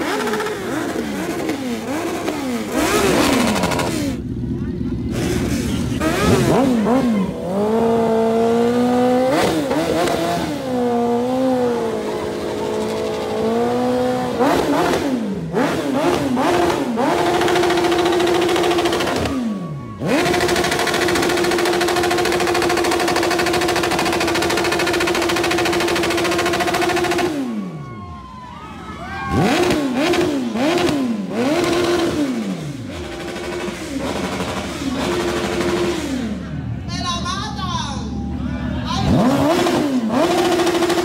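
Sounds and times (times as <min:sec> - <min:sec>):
motorcycle engine revving: 0:00.0 - 0:27.8, 0:29.3 - 0:36.9, 0:38.3 - 0:41.0.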